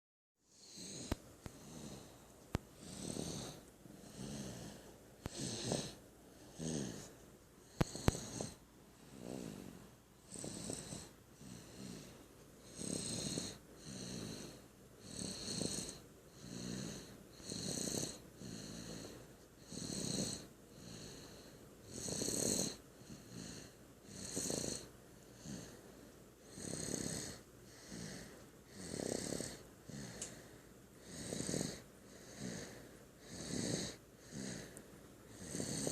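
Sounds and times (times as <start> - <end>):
rhythmic snoring: 0.4 - 35.9.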